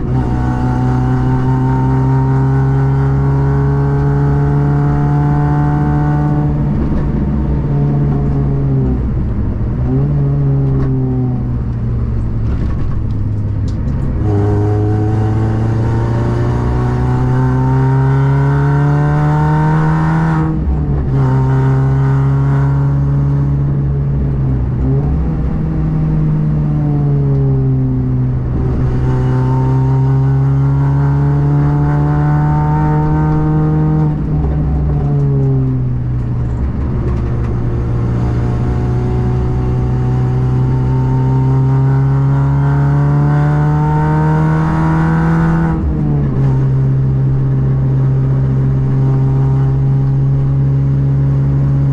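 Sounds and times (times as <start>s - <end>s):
race car engine accelerating: 0.0s - 51.9s.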